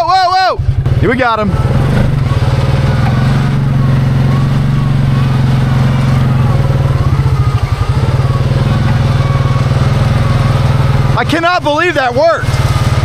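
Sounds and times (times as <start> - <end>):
off-road vehicle engine running hard: 0.0 - 13.0.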